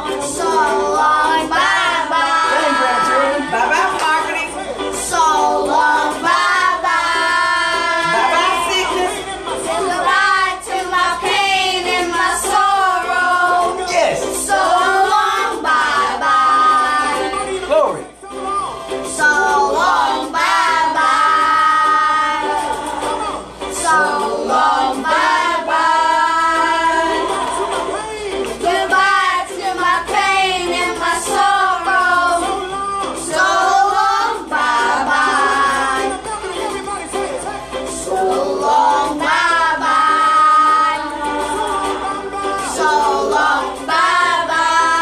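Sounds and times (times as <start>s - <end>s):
children and adults singing: 0.0s - 17.7s, 18.6s - 45.0s.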